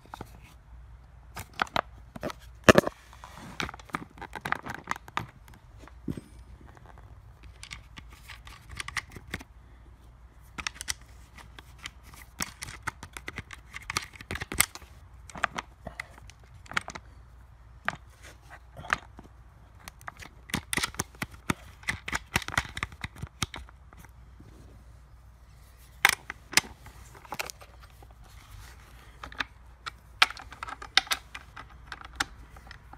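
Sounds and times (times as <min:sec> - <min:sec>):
hands handling plastic parts: 0:00.0 - 0:00.6, 0:01.3 - 0:09.6, 0:10.4 - 0:32.9.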